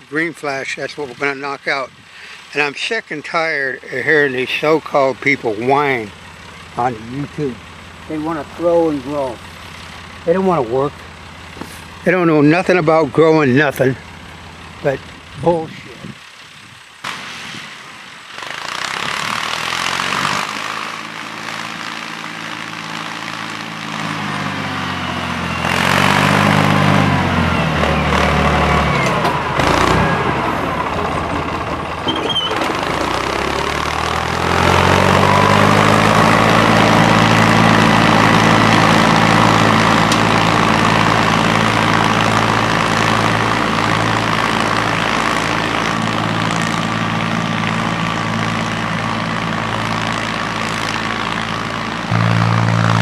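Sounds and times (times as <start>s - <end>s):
tractor engine revving: 0.0s - 53.0s.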